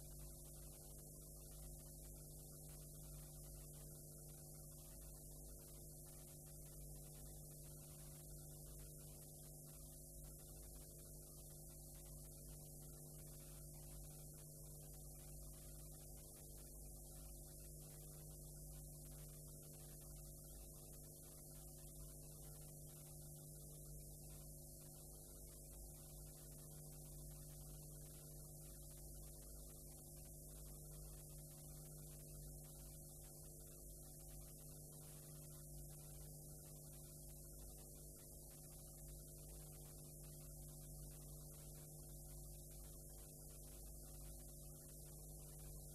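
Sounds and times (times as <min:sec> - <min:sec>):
faint electrical hum with hiss: 0:00.0 - 0:45.9.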